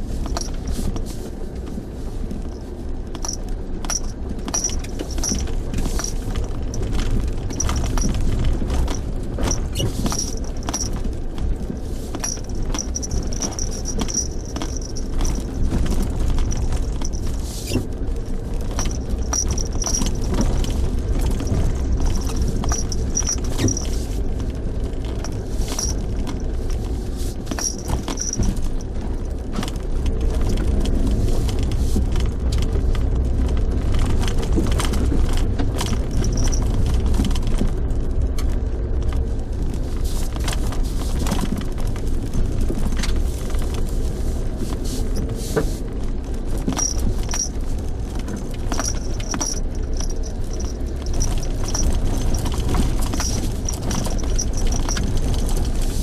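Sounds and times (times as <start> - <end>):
car interior road rumble: 0.0 - 56.0
small rattles and clicks: 0.0 - 56.0.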